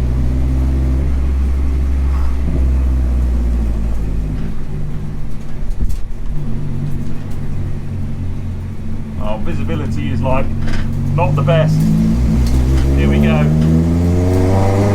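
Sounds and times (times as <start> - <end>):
car engine droning in cabin: 0.0 - 14.9.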